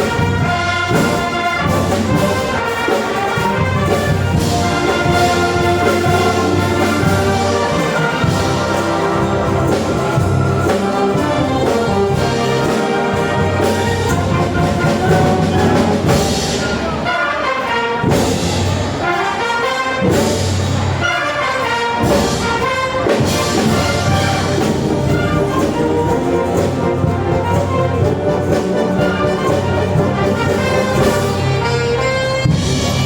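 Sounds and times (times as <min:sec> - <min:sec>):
brass band playing: 0:00.0 - 0:33.0.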